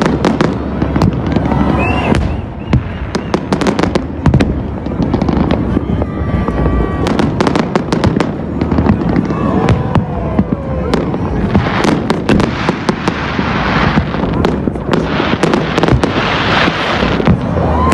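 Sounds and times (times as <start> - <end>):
fireworks bangs and crackles: 0.0 - 17.9.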